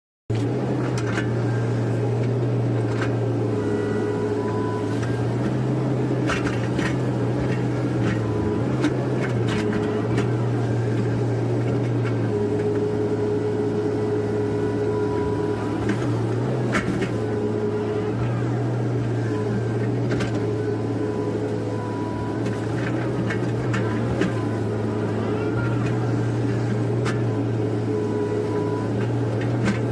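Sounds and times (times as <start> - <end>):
excavator engine running: 0.3 - 29.9
hydraulic whine: 0.4 - 29.9.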